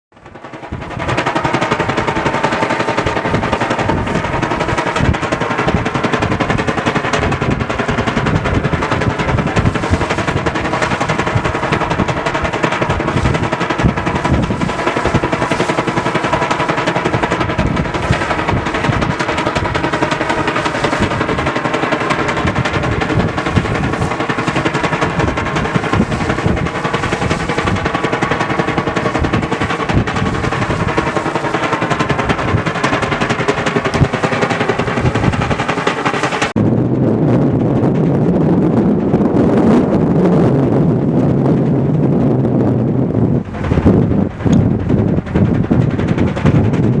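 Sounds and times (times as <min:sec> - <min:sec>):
kite rattling buzz: 0:00.1 - 0:47.0
wind buffeting the microphone: 0:00.1 - 0:47.0.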